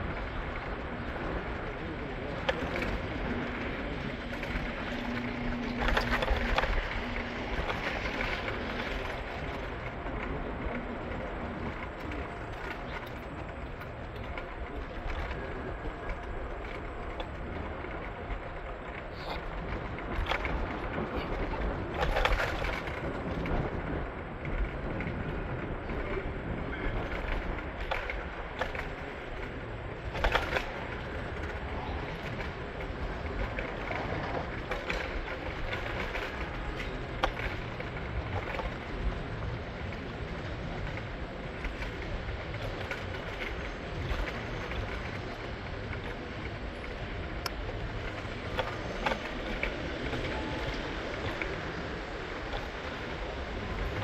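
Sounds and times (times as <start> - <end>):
city street ride rumble: 0.0 - 54.0.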